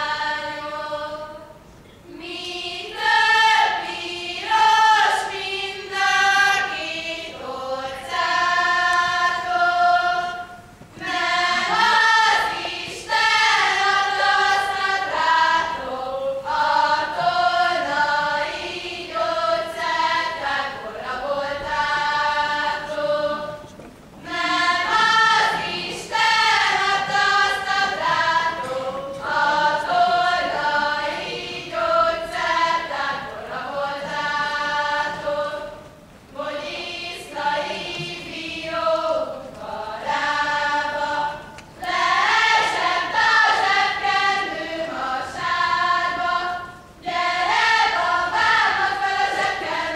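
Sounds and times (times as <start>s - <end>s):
women singing folk song: 0.0s - 49.9s.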